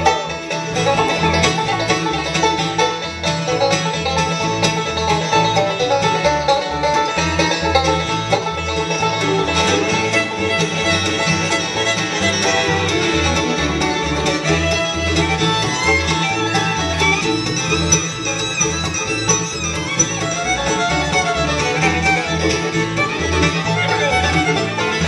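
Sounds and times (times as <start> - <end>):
bluegrass band playing: 0.0 - 25.0
upright bass plucking: 0.0 - 25.0.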